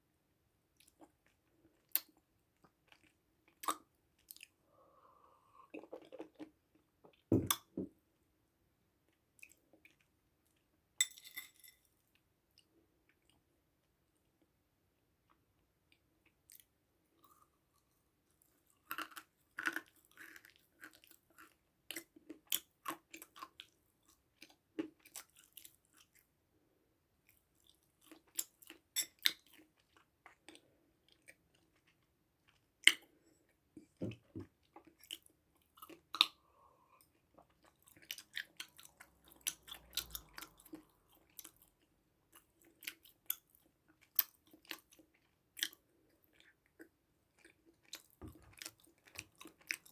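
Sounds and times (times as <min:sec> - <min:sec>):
chewing and crunching food: 0:00.7 - 0:07.7, 0:09.0 - 0:10.9, 0:15.2 - 0:49.9.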